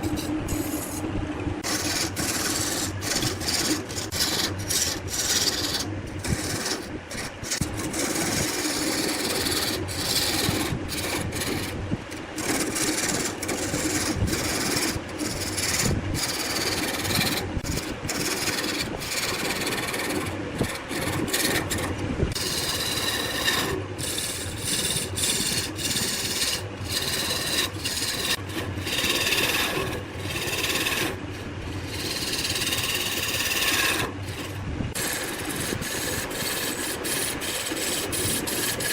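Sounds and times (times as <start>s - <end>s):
tool scraping wood on a lathe: 0.0s - 38.9s.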